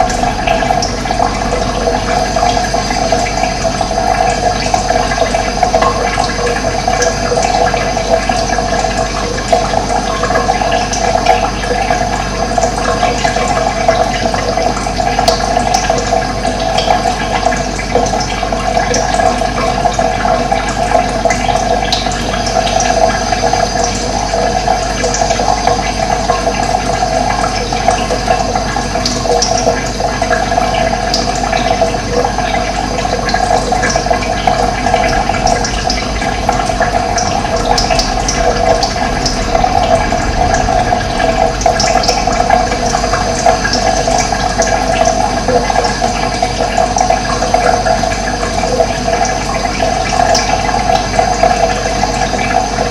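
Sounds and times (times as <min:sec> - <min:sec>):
running water rushing: 0:00.0 - 0:52.9.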